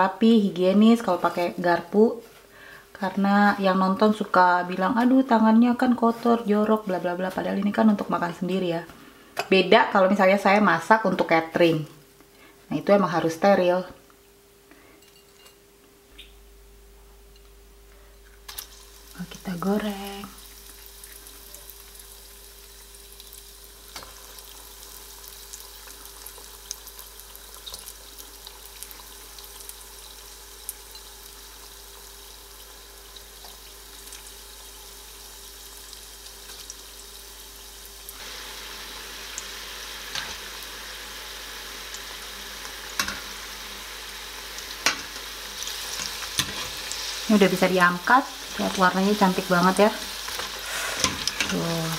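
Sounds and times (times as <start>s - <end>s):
food sizzling in hot oil: 0.0s - 8.8s, 18.4s - 51.9s.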